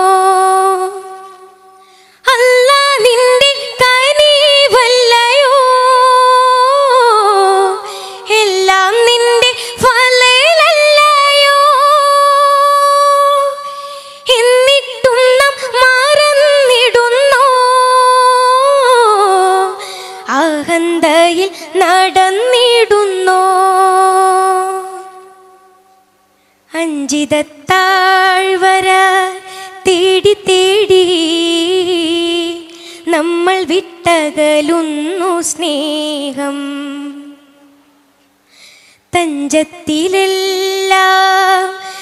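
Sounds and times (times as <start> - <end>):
person singing devotional song: 0.0 - 26.1, 26.7 - 38.0, 39.0 - 42.0.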